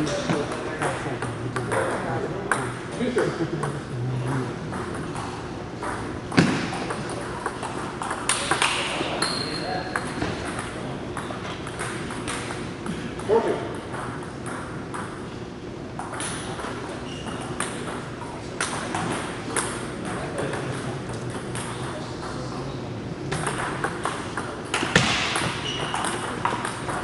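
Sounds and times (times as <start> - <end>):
table tennis ball pinging: 0.0 - 2.8, 3.6 - 15.2, 16.0 - 22.4, 23.3 - 27.0.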